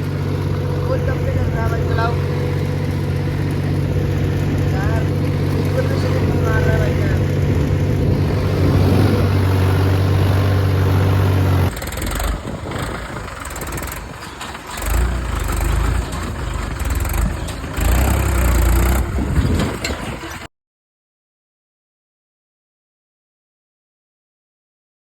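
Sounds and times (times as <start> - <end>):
tractor diesel engine running: 0.0 - 20.5.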